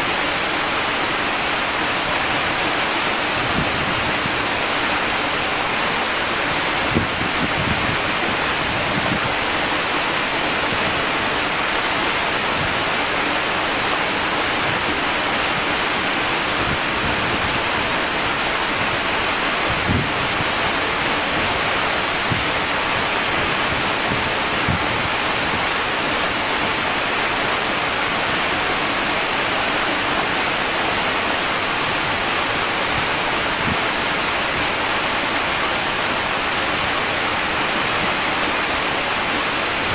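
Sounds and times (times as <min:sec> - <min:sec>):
waterfall rushing: 0:00.0 - 0:39.9
low thuds of falling water: 0:00.1 - 0:39.9.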